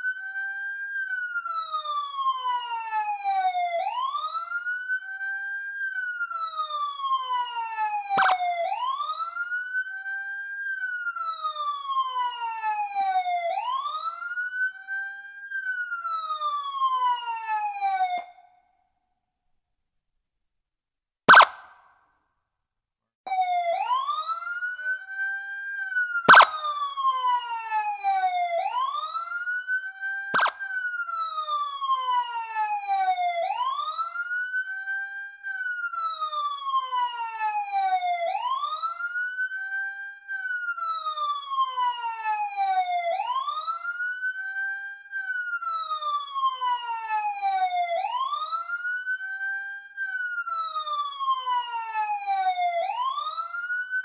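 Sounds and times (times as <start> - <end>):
police siren wailing: 0.0 - 18.4, 21.3 - 21.8, 23.3 - 54.0.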